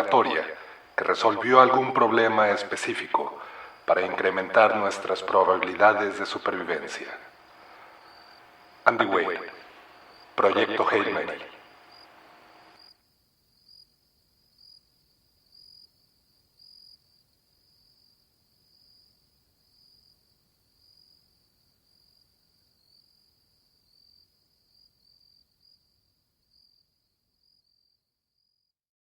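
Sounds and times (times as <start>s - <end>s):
insects chirping: 0.0s - 28.6s.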